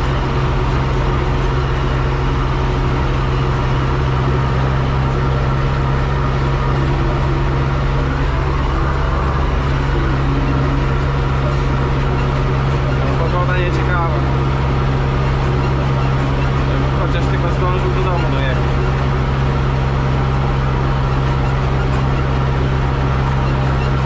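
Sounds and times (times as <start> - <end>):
tractor diesel engine humming: 0.0 - 24.0.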